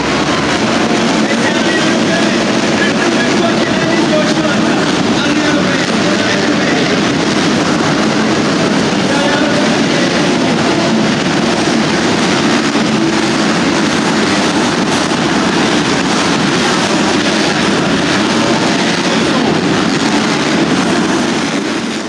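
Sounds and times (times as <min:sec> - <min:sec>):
motocross bike engines droning: 0:00.0 - 0:22.0.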